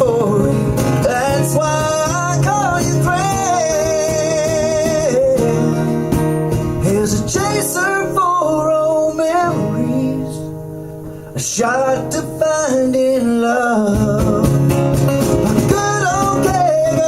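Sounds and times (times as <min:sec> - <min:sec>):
person singing: 0:00.0 - 0:10.6, 0:11.3 - 0:17.0
acoustic guitar: 0:00.0 - 0:17.0.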